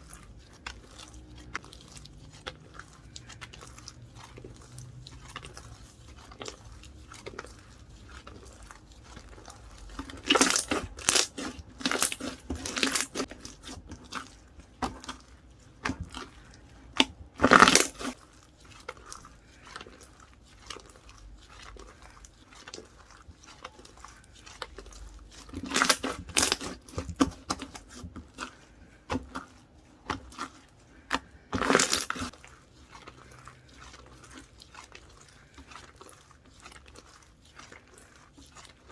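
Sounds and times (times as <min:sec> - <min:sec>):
hands squishing foam ball slime: 0:00.0 - 0:38.9.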